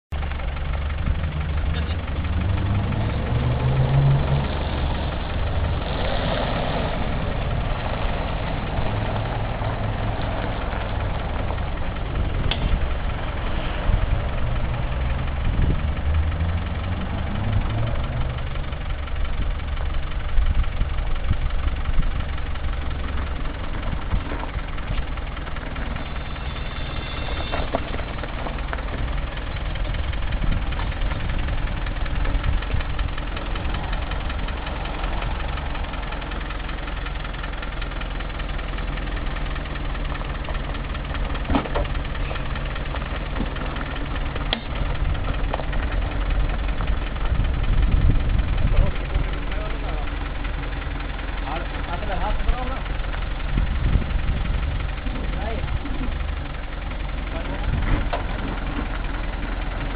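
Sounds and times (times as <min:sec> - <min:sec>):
truck engine running at low revs: 0:00.1 - 0:59.9.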